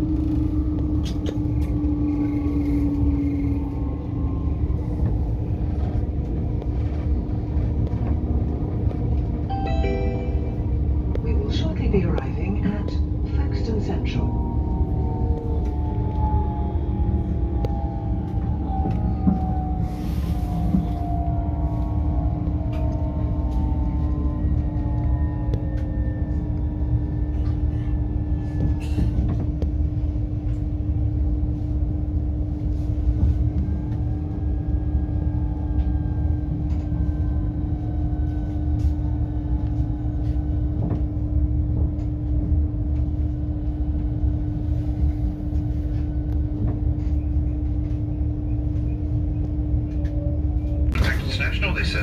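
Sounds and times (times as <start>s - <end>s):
train cabin rumble: 0.0s - 52.0s.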